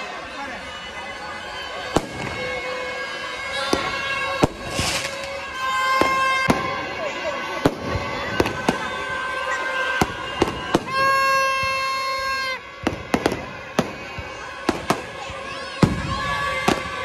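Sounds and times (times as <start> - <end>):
busy street noise: 0.0 - 17.0
horn sounding: 0.0 - 17.0
firecrackers banging: 0.6 - 17.0.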